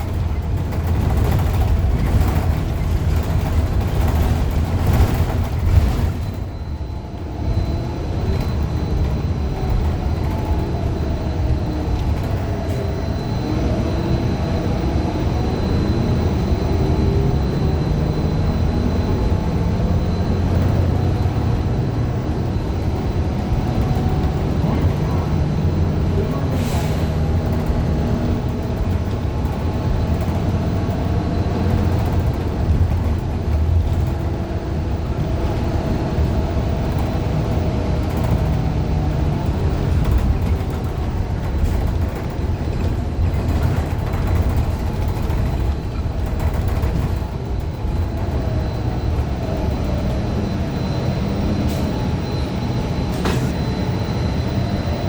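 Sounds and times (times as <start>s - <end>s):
rattles and clicks: 0.0s - 13.4s, 20.1s - 52.4s
bus engine rumble: 0.0s - 55.0s.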